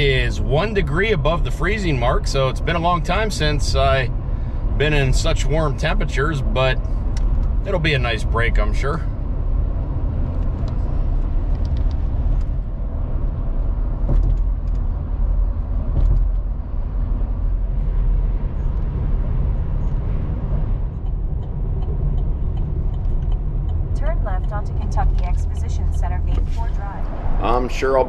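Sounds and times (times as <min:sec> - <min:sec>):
vehicle road and engine rumble: 0:00.0 - 0:28.0.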